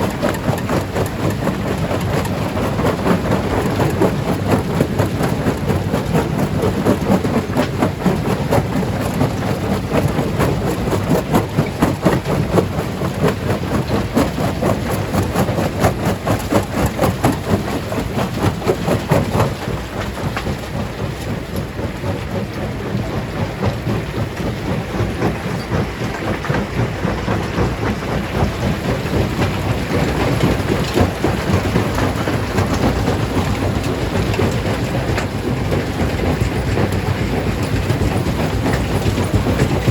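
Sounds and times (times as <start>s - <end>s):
heavy machine rumble: 0.0s - 39.9s.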